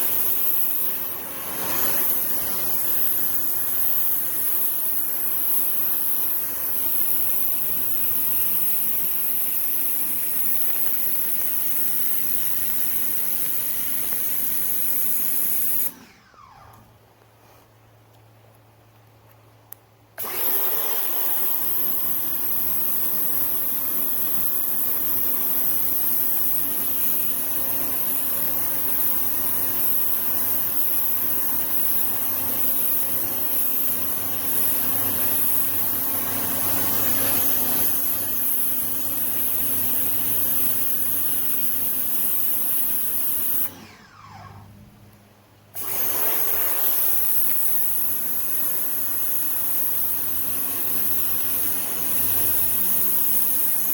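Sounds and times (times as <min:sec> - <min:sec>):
high-pressure spray hissing: 0:00.0 - 0:16.0, 0:20.2 - 0:43.7, 0:45.8 - 0:53.9
pressure washer motor humming: 0:00.0 - 0:17.0, 0:20.2 - 0:53.9.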